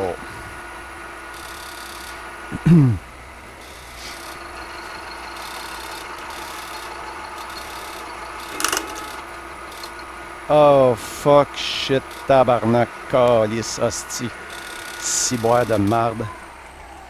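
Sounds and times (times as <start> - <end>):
end mill cutting steel: 0.0 - 17.0
milling machine spindle running: 0.0 - 17.0.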